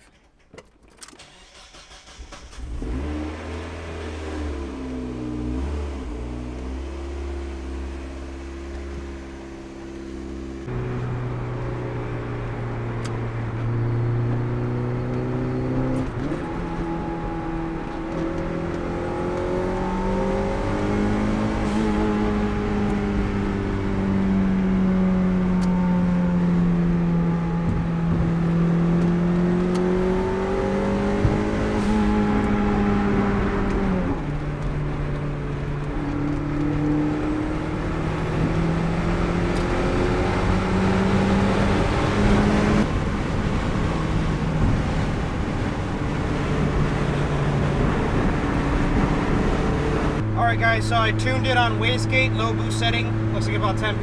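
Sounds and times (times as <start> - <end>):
car engine revving and shifting: 1.2 - 54.0
tyre and road noise: 2.2 - 54.0.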